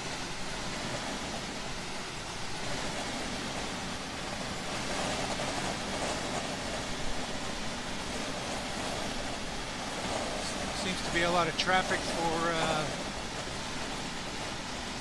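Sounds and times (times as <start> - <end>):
road and wind noise in truck cab: 0.0 - 15.0.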